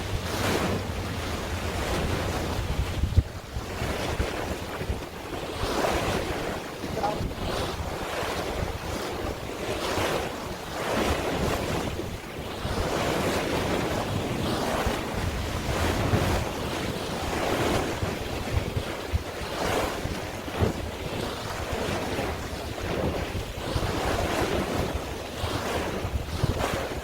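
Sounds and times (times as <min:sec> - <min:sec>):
sea waves washing: 0:00.0 - 0:27.0
wind buffeting microphone: 0:00.0 - 0:27.0.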